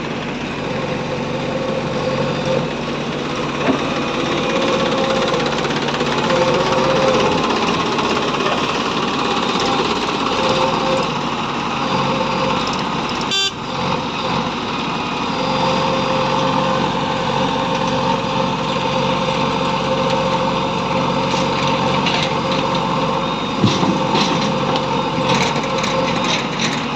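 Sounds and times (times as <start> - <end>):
diesel engines running under load: 0.0 - 26.9
held whining tone: 0.5 - 26.9.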